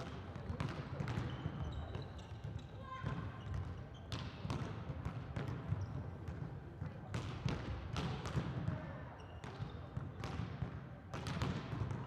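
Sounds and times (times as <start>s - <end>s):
murmur of arena noise: 0.0s - 12.0s.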